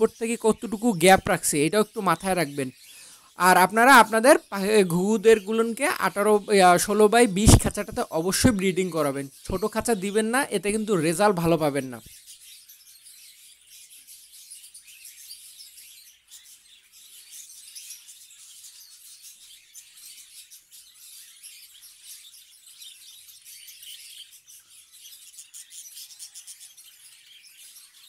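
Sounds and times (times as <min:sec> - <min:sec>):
cage birds chirping and twittering: 0:00.0 - 0:28.0.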